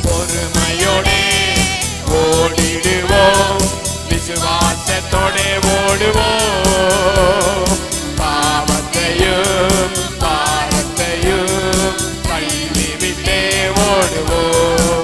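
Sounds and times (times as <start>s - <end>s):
instrumental backing with steady beat: 0.0s - 15.0s
man singing into a microphone: 0.0s - 15.0s.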